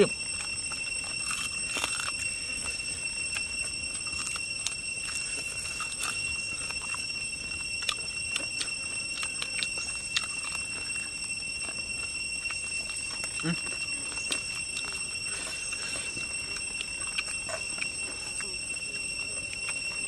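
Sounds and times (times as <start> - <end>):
steady high-pitched whine: 0.0 - 20.0
teeth chewing and biting meat: 0.0 - 20.0.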